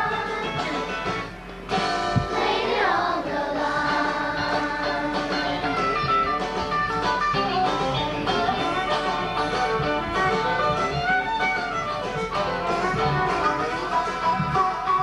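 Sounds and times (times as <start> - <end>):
guitar: 0.0 - 15.0.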